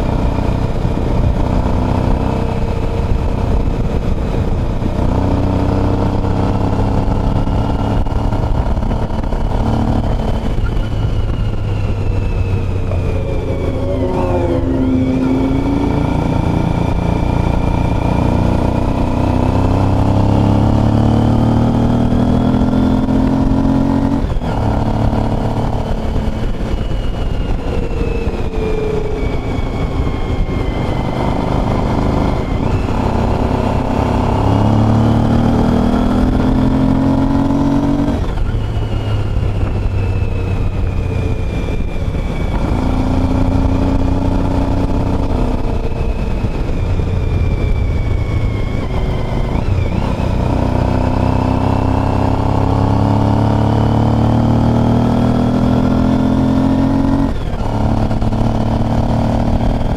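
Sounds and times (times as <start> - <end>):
motorcycle engine accelerating: 0.0 - 59.9
wind rush: 0.0 - 59.9.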